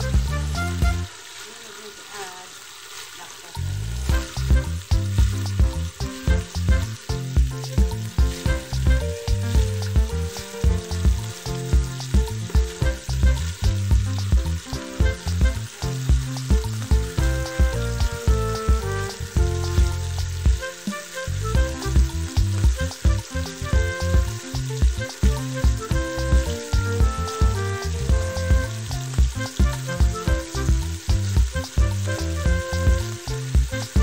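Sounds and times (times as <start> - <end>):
background music with bass beat: 0.0 - 1.1, 3.8 - 34.0
food sizzling in oil: 0.0 - 34.0.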